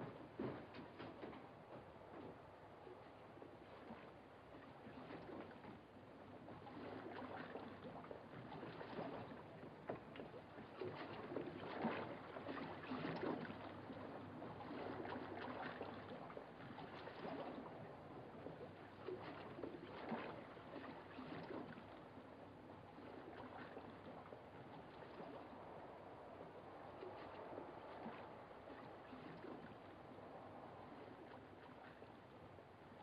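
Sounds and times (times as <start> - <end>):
water lapping at shore: 0.0 - 33.0.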